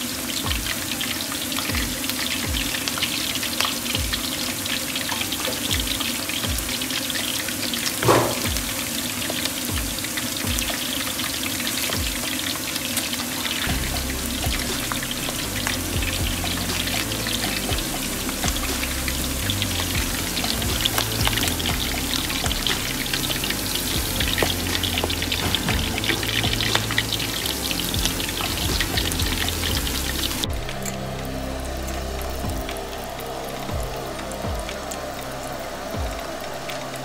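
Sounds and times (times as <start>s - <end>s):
soft background music: 0.0s - 37.0s.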